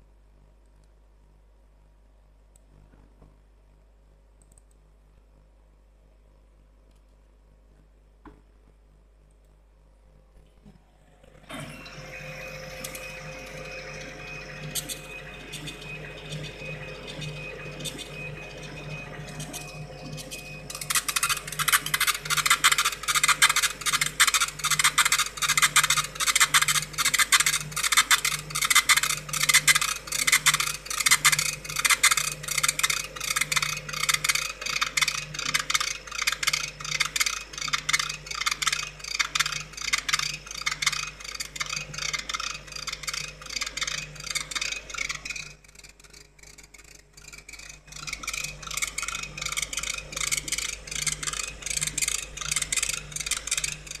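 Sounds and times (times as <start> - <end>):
low motor hum: 10.3 - 54.0.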